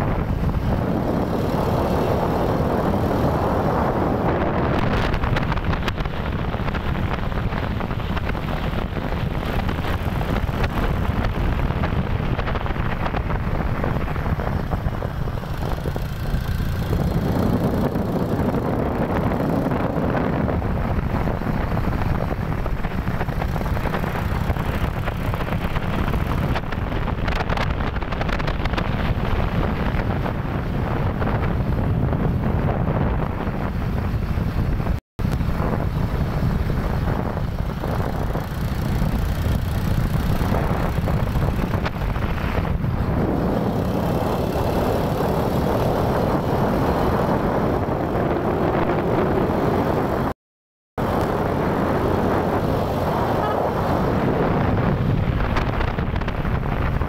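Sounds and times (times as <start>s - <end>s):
motorcycle engine running: 0.0s - 50.3s, 51.0s - 57.0s
road noise: 0.0s - 50.4s, 51.0s - 57.0s
wind buffeting microphone: 0.0s - 50.4s, 51.0s - 57.0s.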